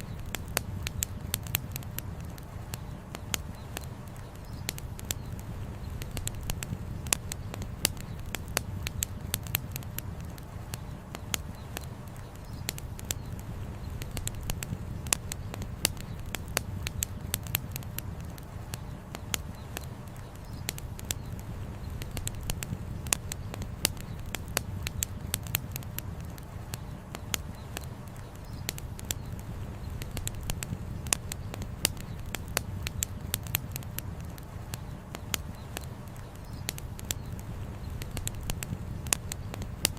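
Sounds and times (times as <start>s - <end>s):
firewood crackling: 0.0s - 39.9s
low fire rumble: 0.0s - 39.9s.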